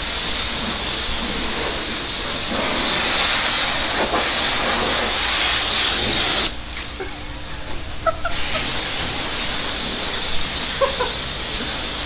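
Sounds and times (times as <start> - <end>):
pressure washer jet hissing: 0.0 - 6.6, 8.0 - 12.0.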